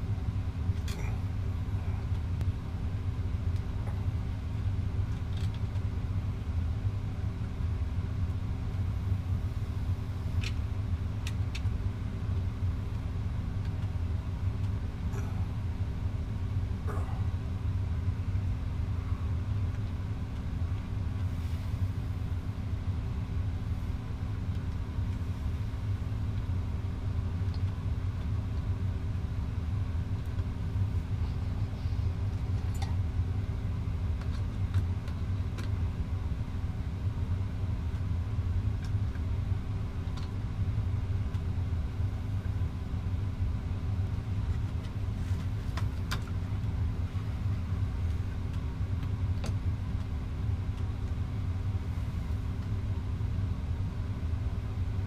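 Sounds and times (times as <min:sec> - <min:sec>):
machine rumble and hum: 0:00.0 - 0:55.0.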